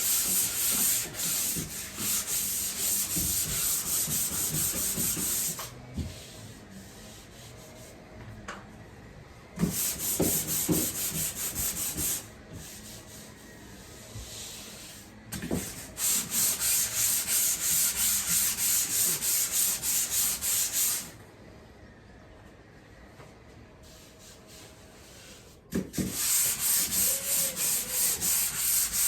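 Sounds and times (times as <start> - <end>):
hand sanding drywall: 0.0 - 8.0, 9.6 - 21.1, 23.9 - 29.0.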